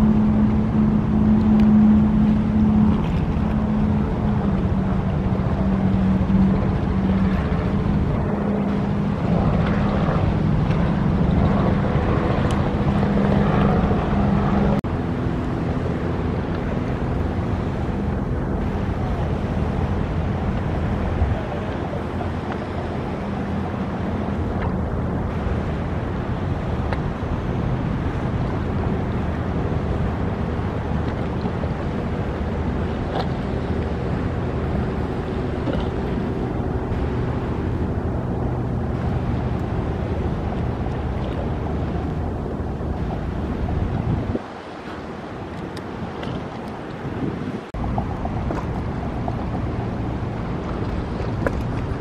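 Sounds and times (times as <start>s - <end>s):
motorboat engine drone: 0.0s - 52.0s
water wash: 0.0s - 52.0s
wind on microphone: 0.0s - 52.0s.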